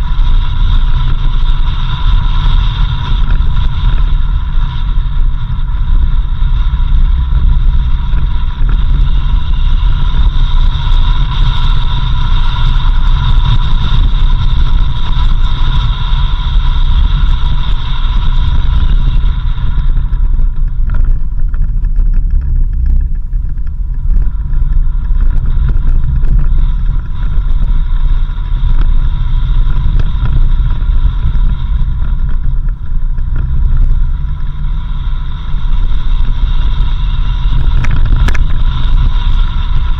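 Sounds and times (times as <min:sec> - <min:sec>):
engine and tyres rumbling: 0:00.0 - 0:39.9
high whine: 0:00.0 - 0:39.9.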